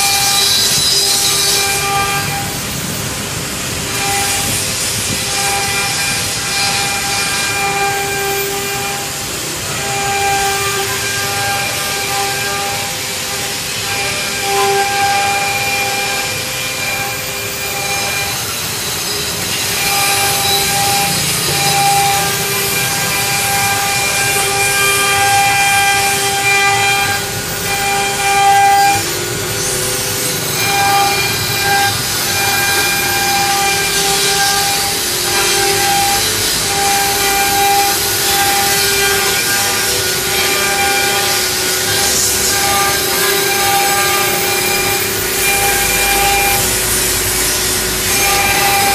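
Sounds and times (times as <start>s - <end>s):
rough cutting noise: 0.0s - 48.9s
router spindles whining: 0.0s - 48.9s.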